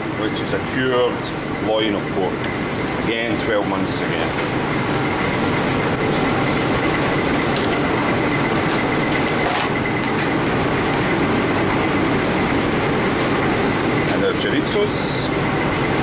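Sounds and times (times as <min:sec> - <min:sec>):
kitchen ventilation running: 0:00.0 - 0:16.0.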